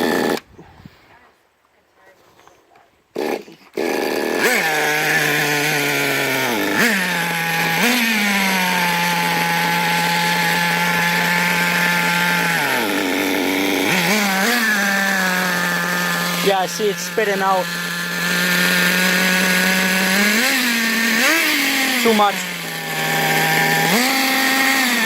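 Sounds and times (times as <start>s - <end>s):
rc car engine revving: 0.0s - 0.4s, 3.2s - 25.0s.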